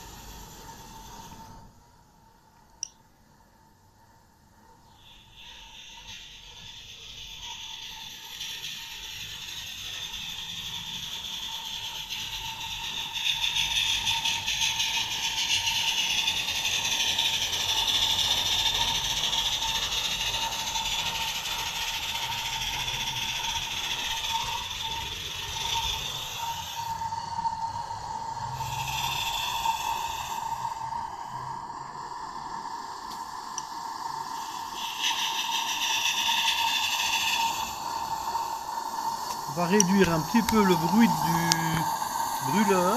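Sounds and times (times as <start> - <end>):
model steam locomotive running: 0.0 - 1.8, 2.8 - 42.9.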